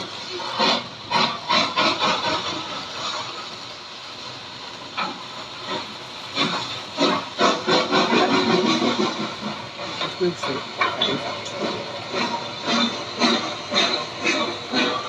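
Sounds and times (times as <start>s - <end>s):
steam hiss: 0.0s - 15.0s
steam locomotive exhaust chuffs: 0.0s - 15.0s.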